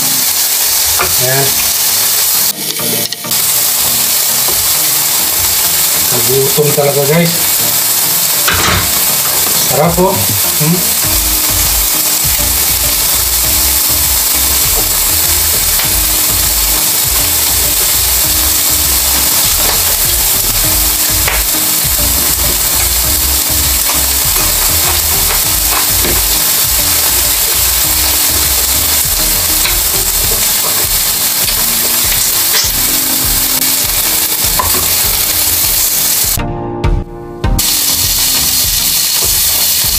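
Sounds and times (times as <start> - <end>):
meat sizzling on a grill pan: 0.0 - 36.4, 37.6 - 39.9.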